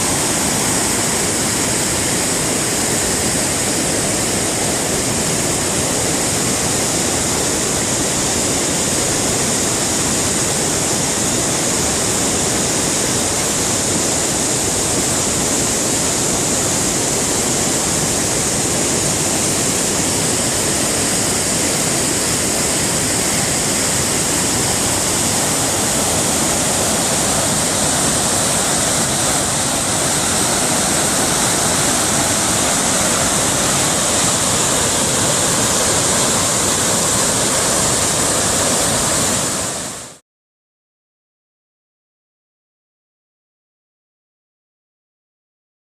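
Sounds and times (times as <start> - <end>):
rushing floodwater: 0.0 - 40.2.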